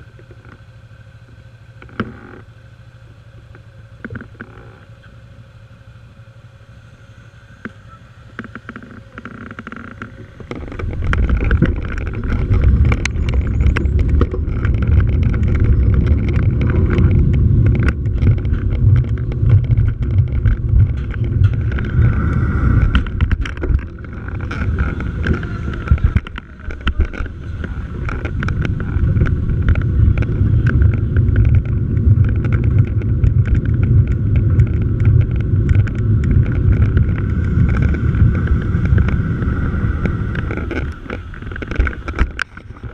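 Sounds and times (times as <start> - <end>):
motorcycle engine running: 0.0 - 42.9
wind rumble on microphone: 7.6 - 42.9.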